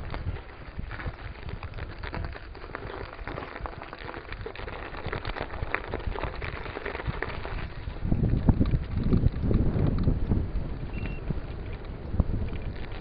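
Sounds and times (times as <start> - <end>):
bike tyres crackling over snow: 0.0 - 13.0
wind rumble on microphone: 0.0 - 13.0.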